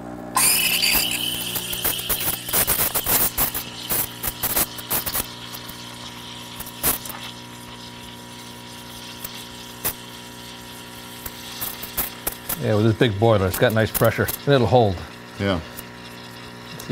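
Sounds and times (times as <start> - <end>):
espresso machine pump humming: 0.0 - 16.9
steam wand hissing into milk: 0.4 - 16.9.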